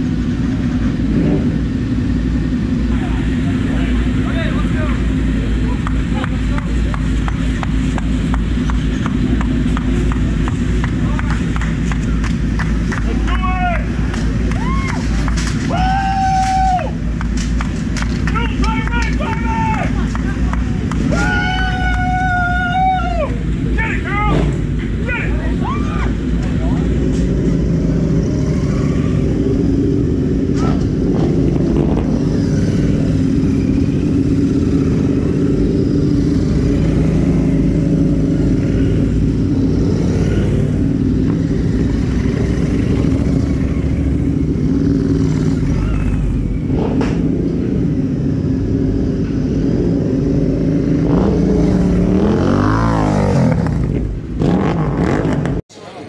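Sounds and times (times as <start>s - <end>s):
motorcycles running at low revs: 0.0s - 55.7s
motorcycle revving: 0.0s - 55.8s.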